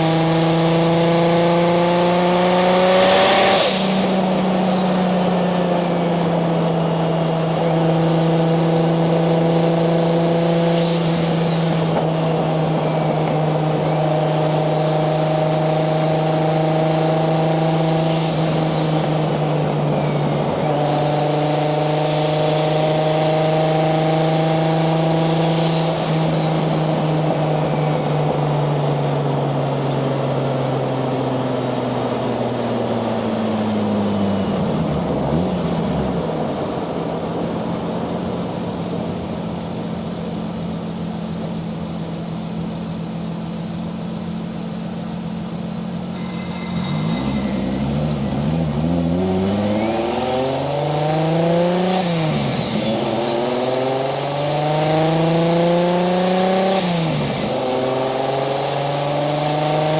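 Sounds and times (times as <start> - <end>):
car engine running: 0.0 - 59.9
turbo whine: 0.0 - 59.9.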